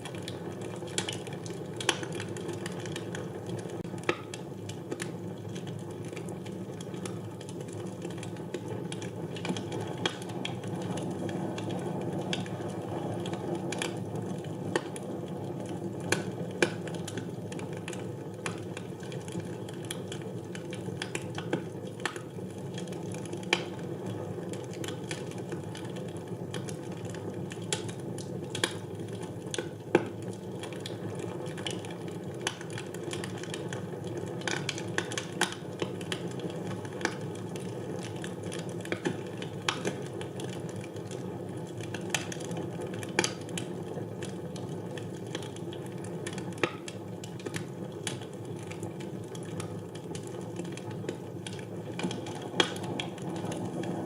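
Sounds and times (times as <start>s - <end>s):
wood fire crackling in fireplace: 0.0s - 54.0s.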